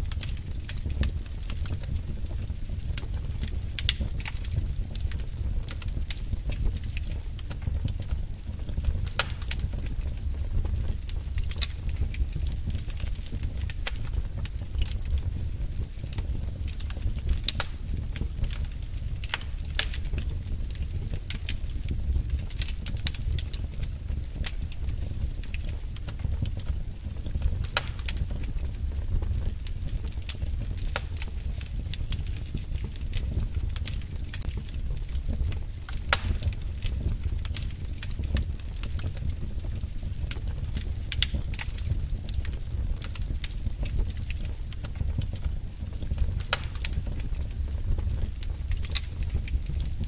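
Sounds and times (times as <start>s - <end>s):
low fire rumble: 0.0s - 50.0s
wood fire crackling: 0.0s - 50.0s.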